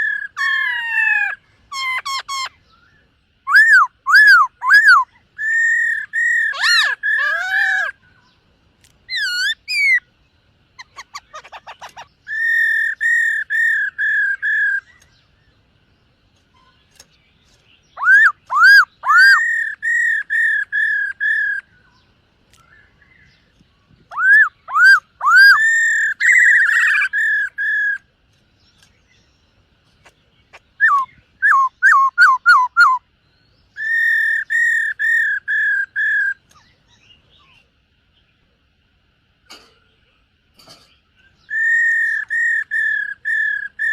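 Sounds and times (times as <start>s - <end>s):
bird whistling song: 0.0s - 8.4s, 9.0s - 10.1s, 10.8s - 15.6s, 16.4s - 29.3s, 30.0s - 37.6s, 41.2s - 43.9s.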